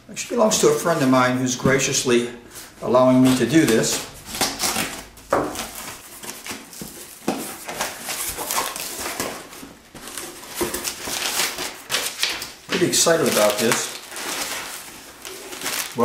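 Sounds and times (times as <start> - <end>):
cardboard rustling and scraping: 2.5 - 16.0.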